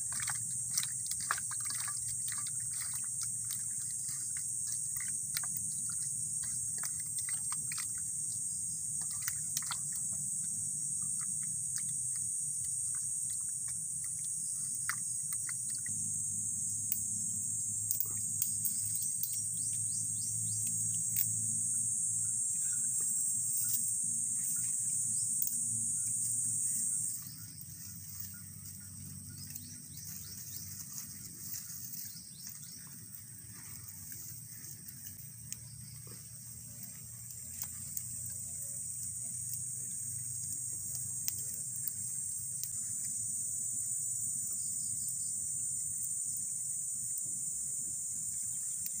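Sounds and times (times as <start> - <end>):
low steady hum: 0.0 - 49.0
shrill insect chorus: 0.0 - 49.0.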